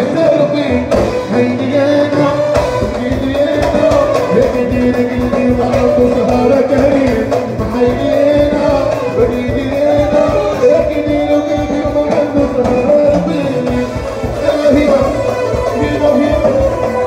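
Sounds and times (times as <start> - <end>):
band with steady drum beat: 0.0 - 17.0
man singing into a microphone: 0.0 - 17.0.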